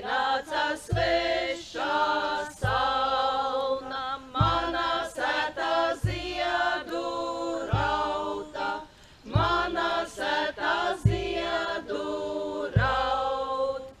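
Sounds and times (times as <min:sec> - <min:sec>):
women singing in unison: 0:00.0 - 0:14.0.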